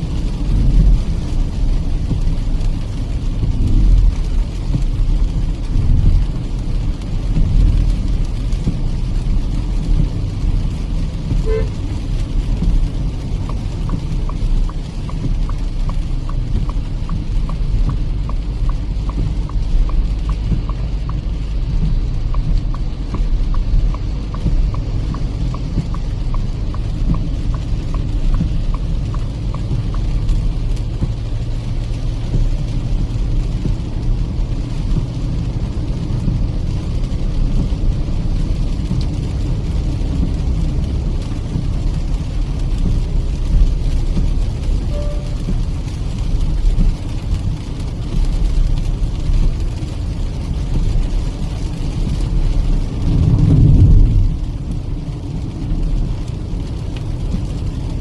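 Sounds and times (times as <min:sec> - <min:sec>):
engine and tyre rumble: 0:00.0 - 0:58.0
turn signal ticking: 0:00.0 - 0:58.0.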